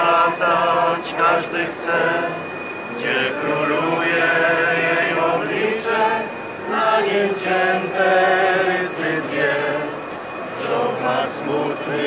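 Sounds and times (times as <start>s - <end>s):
crowd singing a hymn: 0.0s - 12.0s.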